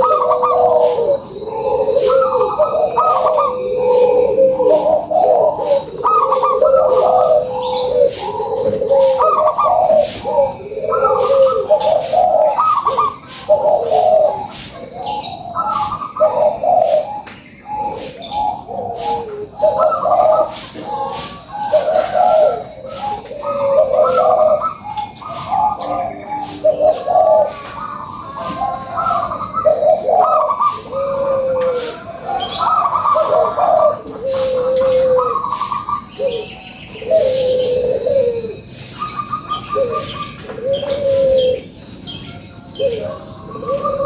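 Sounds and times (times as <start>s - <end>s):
dove cooing: 0.0s - 44.0s.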